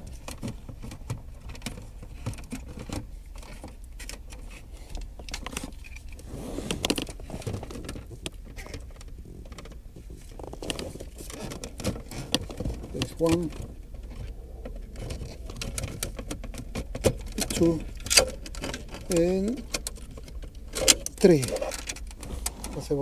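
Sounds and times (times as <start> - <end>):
plastic clicks and rattles: 0.1 - 22.6.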